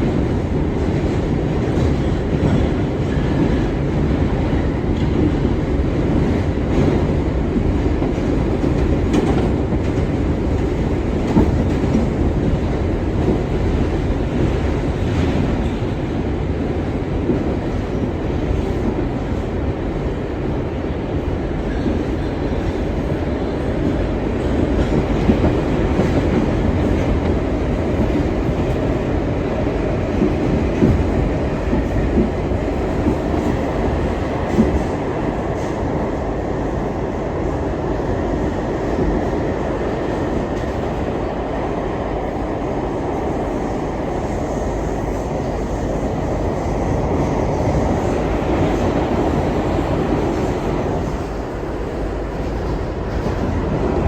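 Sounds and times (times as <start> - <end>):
subway wheels rumbling: 0.0 - 54.0.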